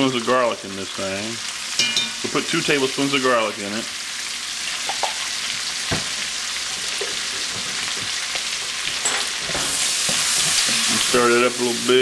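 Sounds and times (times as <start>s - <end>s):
bacon and onion sizzling: 0.0s - 12.0s.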